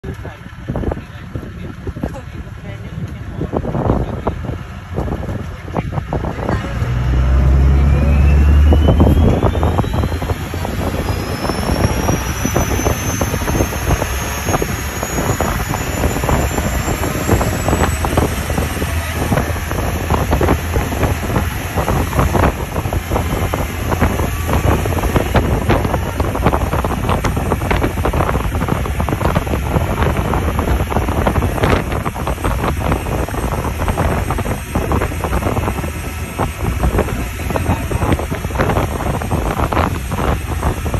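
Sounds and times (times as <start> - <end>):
boat engine running: 0.0 - 40.9
wind buffeting microphone: 0.0 - 40.9
thin rising whine: 4.6 - 40.9
wake rushing: 4.6 - 40.9.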